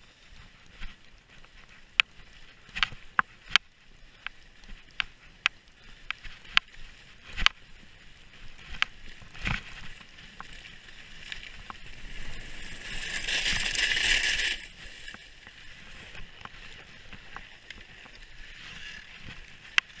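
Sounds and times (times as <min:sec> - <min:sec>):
skis scraping over snow: 0:00.0 - 0:20.0.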